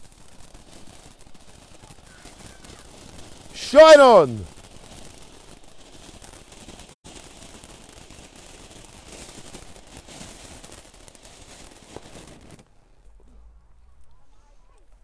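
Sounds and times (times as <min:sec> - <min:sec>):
firework fountain crackling hiss: 0:00.0 - 0:13.1.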